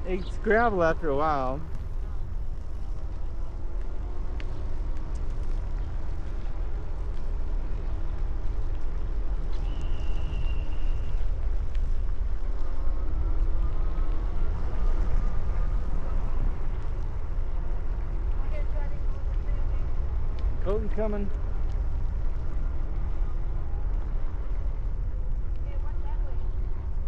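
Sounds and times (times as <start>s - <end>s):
bicycle rolling noise: 0.0s - 27.0s
wind buffeting microphone: 0.0s - 27.0s.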